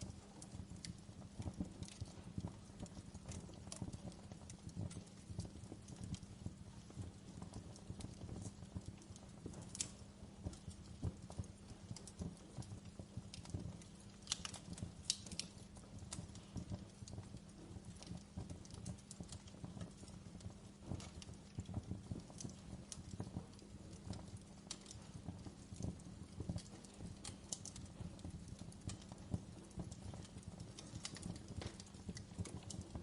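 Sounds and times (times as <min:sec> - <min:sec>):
fire popping: 0:00.0 - 0:33.0
wood fire crackling: 0:00.0 - 0:33.0.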